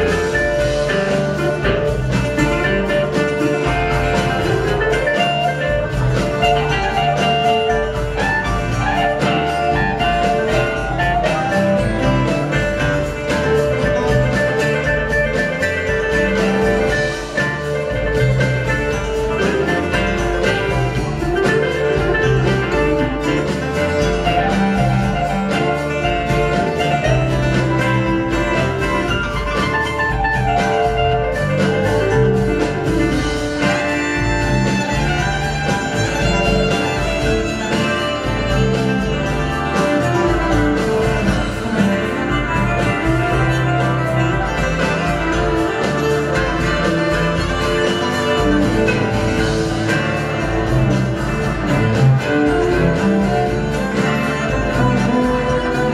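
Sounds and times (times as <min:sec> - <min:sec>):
bluegrass rock band playing: 0:00.0 - 0:55.9
fiddle line: 0:00.0 - 0:55.9.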